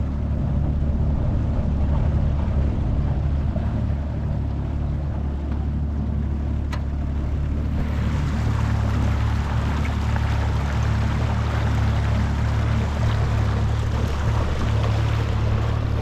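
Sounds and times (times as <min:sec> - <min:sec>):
outboard motor running: 0:00.0 - 0:16.0
water rushing along boat hull: 0:00.0 - 0:16.0.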